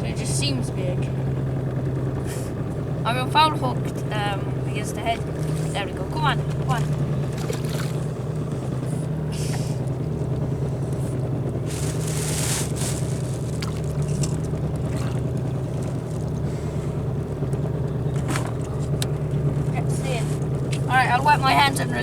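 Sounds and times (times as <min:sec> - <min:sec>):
outboard motor humming: 0:00.0 - 0:22.0.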